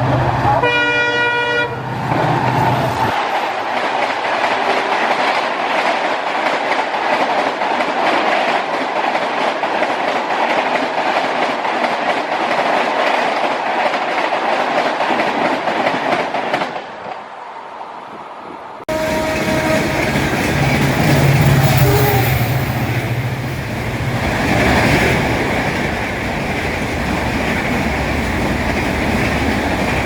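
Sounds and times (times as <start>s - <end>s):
train wheels rushing on rails: 0.0s - 30.0s.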